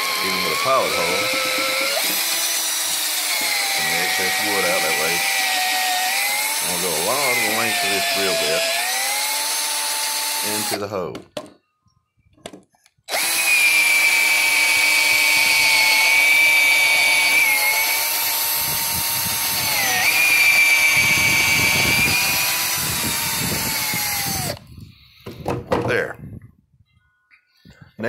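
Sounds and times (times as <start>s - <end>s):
electric drill whining: 0.0s - 10.9s, 13.1s - 24.7s.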